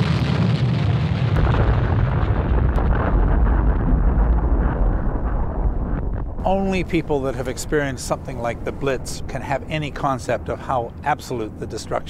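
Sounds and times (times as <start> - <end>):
crackles: 0.0 - 11.1
explosion deep rumble: 0.0 - 11.7.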